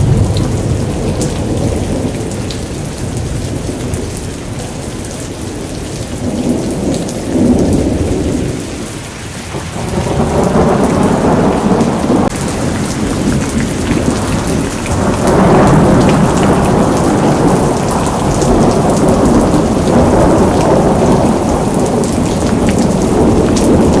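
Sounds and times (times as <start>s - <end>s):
heavy rain and hail: 0.0s - 24.0s.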